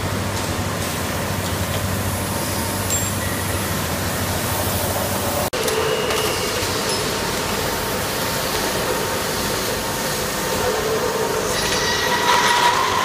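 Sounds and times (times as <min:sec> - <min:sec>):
factory machinery hiss and hum: 0:00.0 - 0:13.0.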